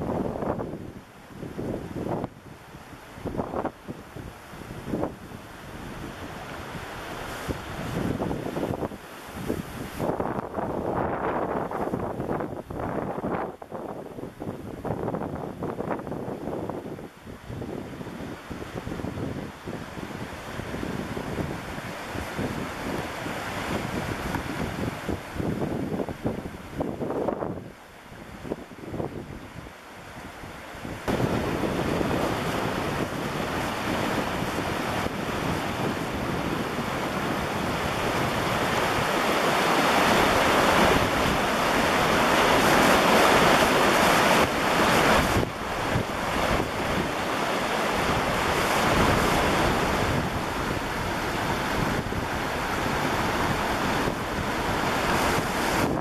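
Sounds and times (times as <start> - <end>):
water rushing through a weir: 0.0 - 13.4, 14.3 - 56.0
wind buffeting microphone: 0.0 - 56.0.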